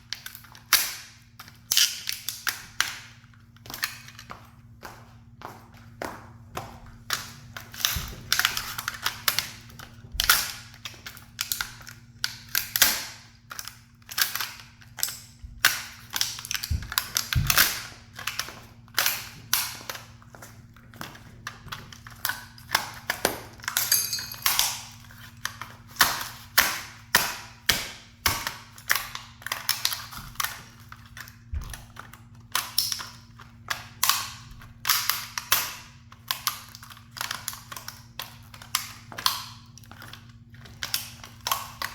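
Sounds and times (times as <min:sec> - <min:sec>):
toy cars cracking and crunching: 0:07.1 - 0:20.2, 0:21.1 - 0:41.9.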